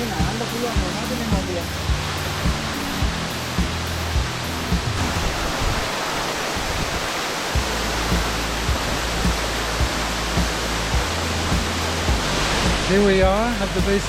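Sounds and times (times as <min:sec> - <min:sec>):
music with low thumping beat: 0:00.0 - 0:05.7, 0:07.6 - 0:14.0
waterfall rushing: 0:00.0 - 0:14.0.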